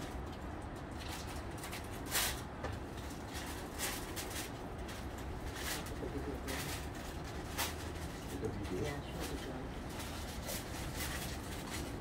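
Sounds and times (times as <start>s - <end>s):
foil trays rustling: 0.0s - 12.0s.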